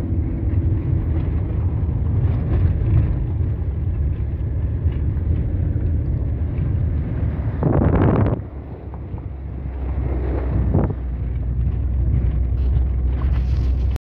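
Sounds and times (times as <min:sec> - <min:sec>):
van engine rumble: 0:00.0 - 0:14.0.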